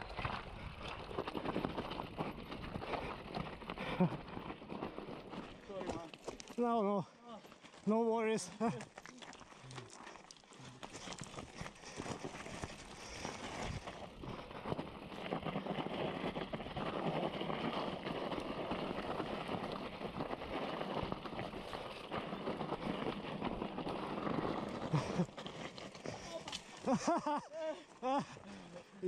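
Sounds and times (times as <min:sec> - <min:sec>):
bike tyres crunching over gravel: 0:00.0 - 0:29.0.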